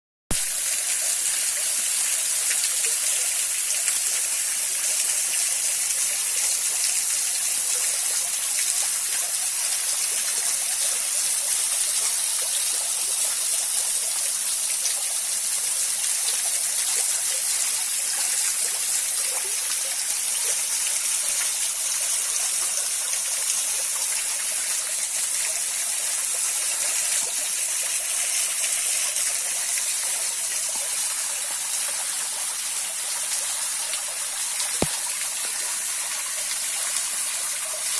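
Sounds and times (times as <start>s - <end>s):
small waterfall splashing: 0.3s - 37.9s
stream flowing: 0.3s - 37.9s.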